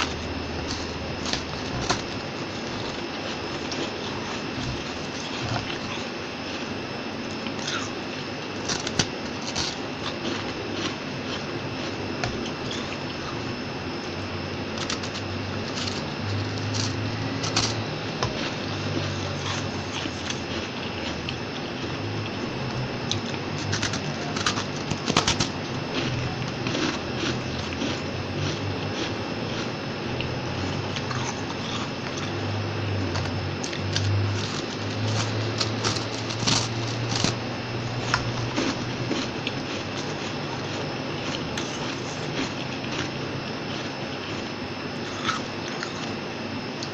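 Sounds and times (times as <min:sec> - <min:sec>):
chewing crunchy frost: 0:00.0 - 0:46.2.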